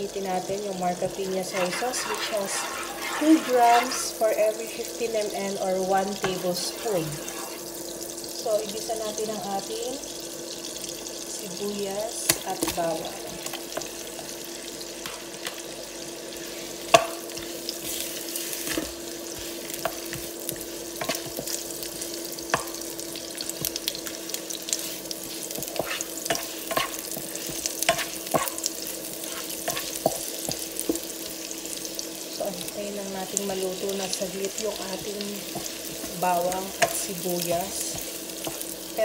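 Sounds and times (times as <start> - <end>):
onion sizzling in butter: 0.0 - 39.0.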